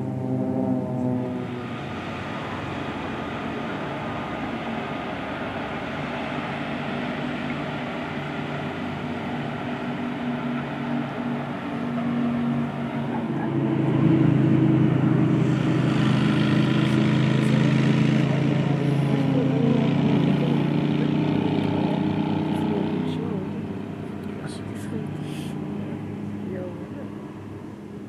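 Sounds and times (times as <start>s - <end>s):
propeller aircraft droning overhead: 0.0s - 28.0s.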